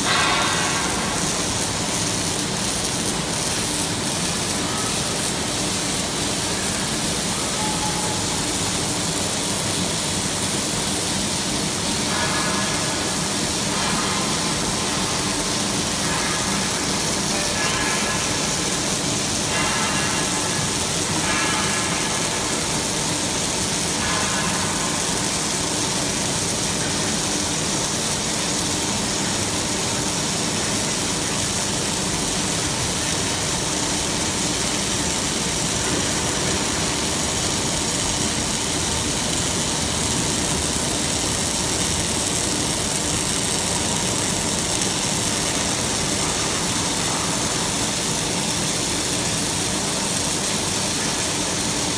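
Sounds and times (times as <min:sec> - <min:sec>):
robotic welding machine noise: 0:00.0 - 0:51.9.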